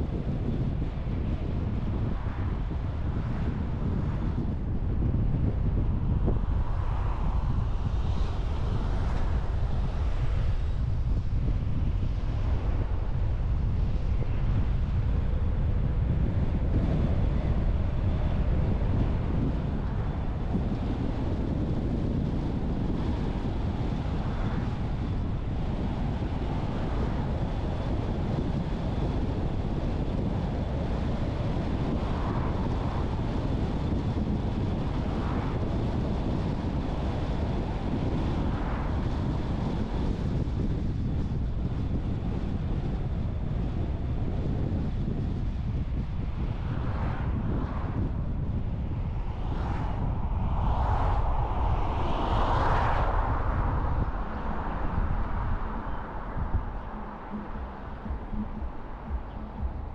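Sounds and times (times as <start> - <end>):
wind buffeting: 0.0 - 59.9.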